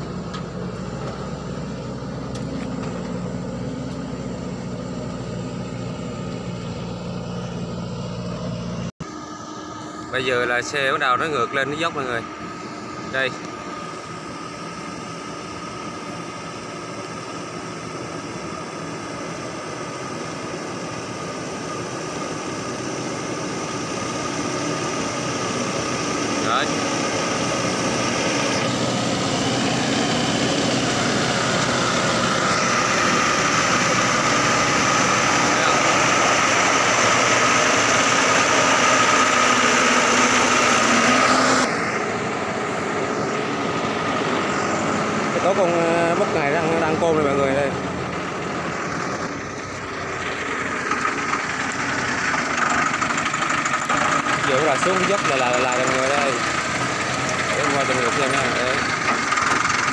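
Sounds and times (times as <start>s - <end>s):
truck diesel engine under load: 0.0s - 59.9s.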